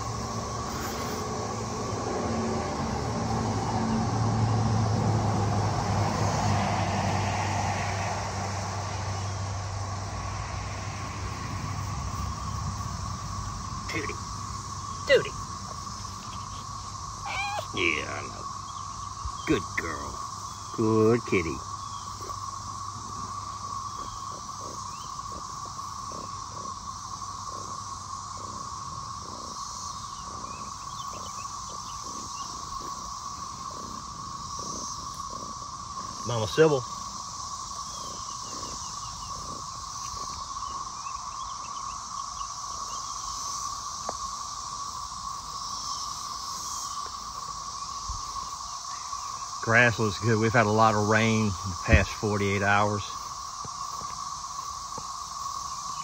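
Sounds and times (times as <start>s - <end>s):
cicadas droning: 0.0s - 56.0s
vehicle rumble: 0.0s - 56.0s.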